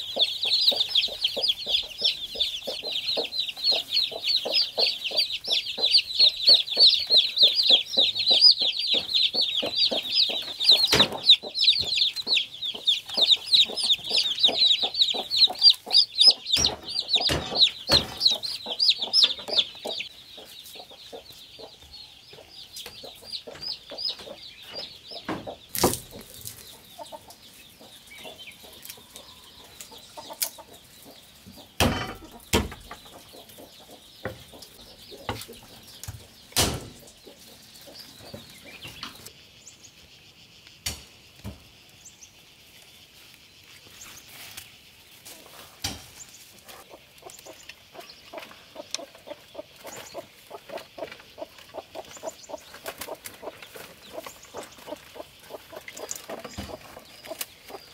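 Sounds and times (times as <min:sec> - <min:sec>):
hen clucking: 0:00.0 - 0:39.3, 0:46.6 - 0:57.9
chicks peeping: 0:00.0 - 0:57.9.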